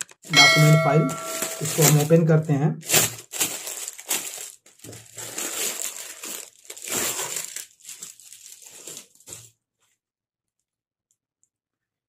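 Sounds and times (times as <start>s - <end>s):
plastic film crinkling: 0.0s - 9.9s.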